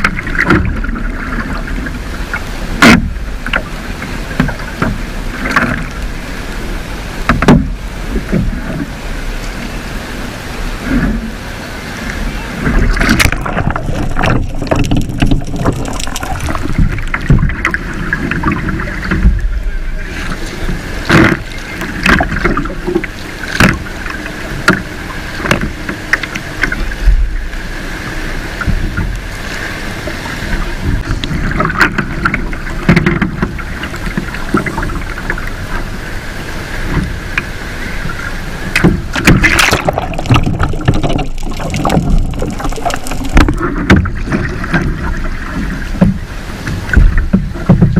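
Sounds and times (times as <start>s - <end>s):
paddle splashing into water: 0.0s - 9.8s, 12.0s - 47.9s
water washing: 0.0s - 47.9s.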